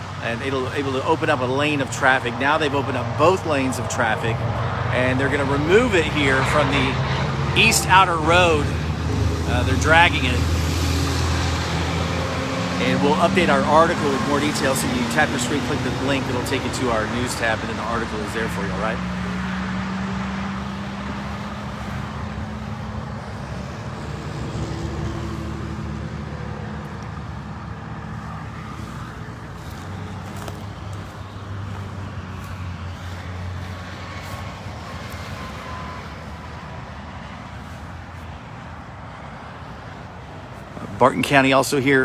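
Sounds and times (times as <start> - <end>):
heavy vehicle engines humming: 0.0 - 42.0
road traffic noise: 0.0 - 42.0.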